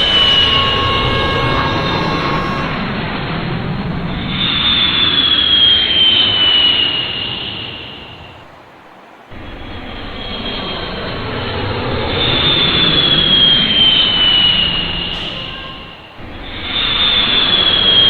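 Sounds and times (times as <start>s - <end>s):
jet aeroplane engines passing: 0.0s - 18.0s.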